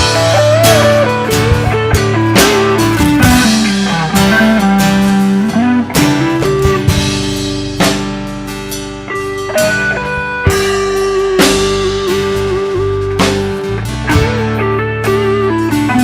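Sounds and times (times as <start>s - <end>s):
drum hits: 0.0s - 14.7s
lead guitar long notes: 0.0s - 16.0s
live band playing: 0.0s - 16.0s.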